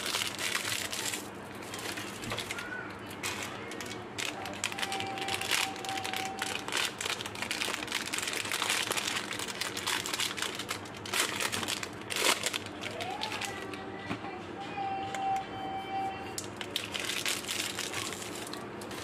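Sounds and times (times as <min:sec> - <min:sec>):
plastic candy wrapper crinkling: 0:00.0 - 0:13.8, 0:16.4 - 0:19.0.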